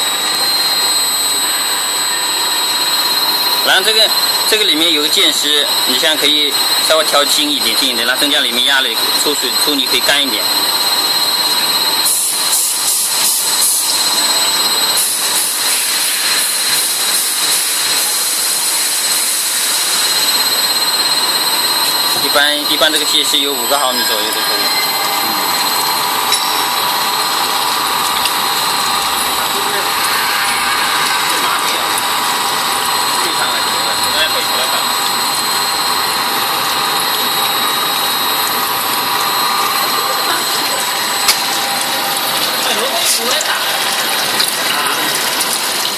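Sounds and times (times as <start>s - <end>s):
high machine whine: 0.0s - 45.9s
machine whirring hiss: 8.7s - 45.9s.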